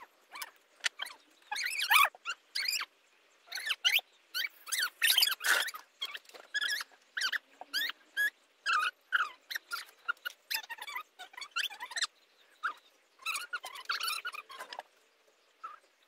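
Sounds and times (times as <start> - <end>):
high-pitched animal squeaks: 0.0 - 2.9, 3.5 - 14.8.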